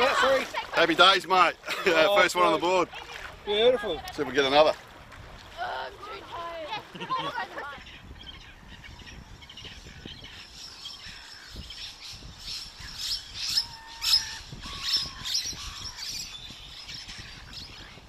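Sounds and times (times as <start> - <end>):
gulls squawking: 0.0 - 4.7, 5.6 - 17.8.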